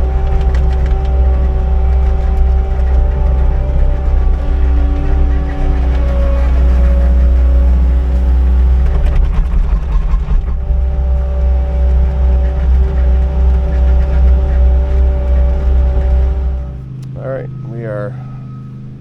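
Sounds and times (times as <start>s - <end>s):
engine rattle: 0.0s - 19.0s
engine running with deep hum: 0.0s - 19.0s.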